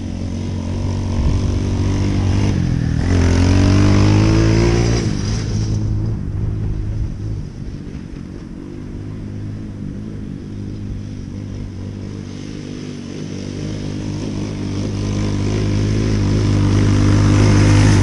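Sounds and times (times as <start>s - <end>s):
small vehicle engine running: 0.0s - 18.0s.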